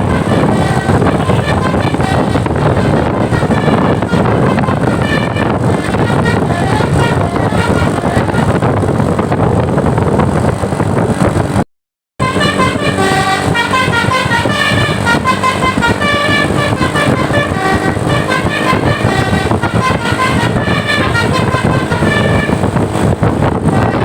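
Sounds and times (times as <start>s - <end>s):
melodic bus horns: 0.0s - 9.4s, 12.2s - 24.0s
loud bus noise: 0.0s - 11.6s, 12.2s - 24.0s.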